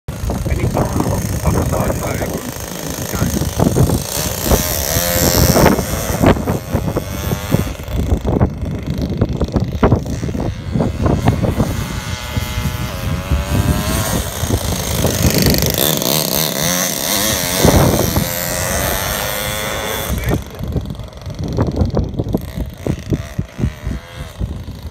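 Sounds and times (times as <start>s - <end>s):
model engine revving: 0.1s - 24.9s.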